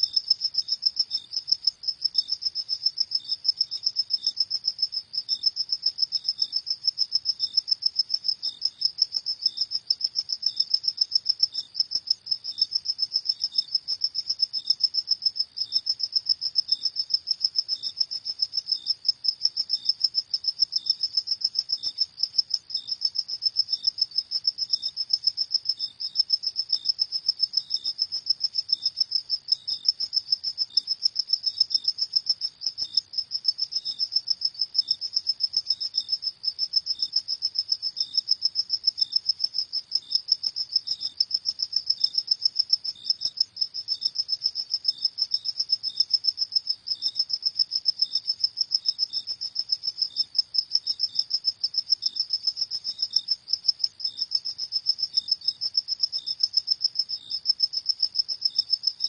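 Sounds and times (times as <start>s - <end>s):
crickets chirping fast: 0.0s - 59.0s
fainter lower cricket chirp: 0.0s - 59.0s.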